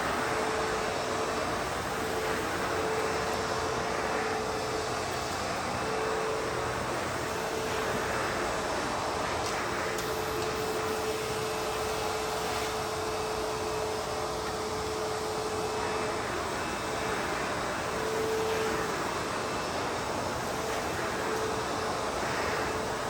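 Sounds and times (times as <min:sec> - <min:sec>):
backpack vacuum running: 0:00.0 - 0:23.0.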